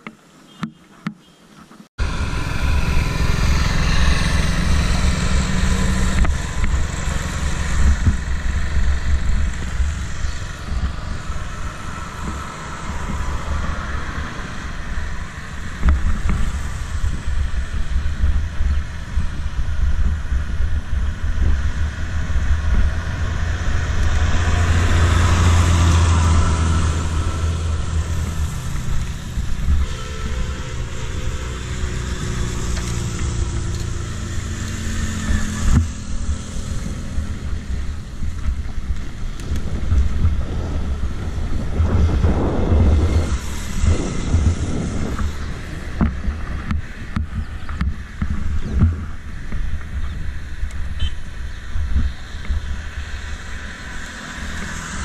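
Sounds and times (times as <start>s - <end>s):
motor traffic: 2.0s - 55.0s
wind rushing over microphone: 2.0s - 55.0s.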